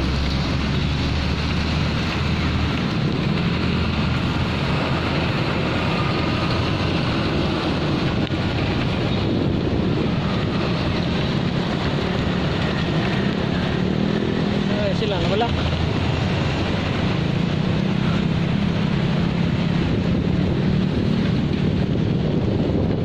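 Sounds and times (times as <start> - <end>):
road and traffic noise: 0.0 - 23.0
wind rush over microphone: 0.0 - 23.0.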